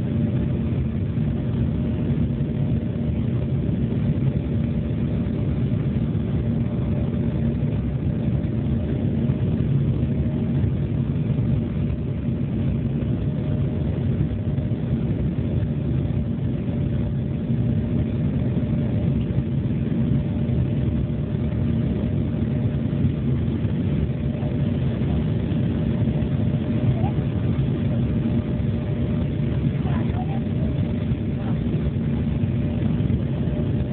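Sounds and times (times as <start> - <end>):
faint constant hum: 0.0 - 33.9
jet airliner engine drone: 0.0 - 33.9.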